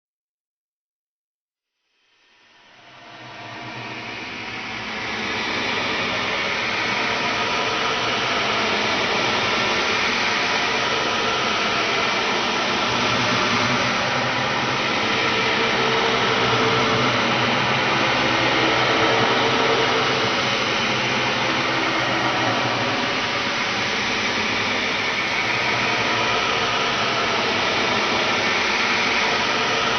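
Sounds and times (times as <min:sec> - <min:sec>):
harsh noise drone: 0:03.0 - 0:29.9.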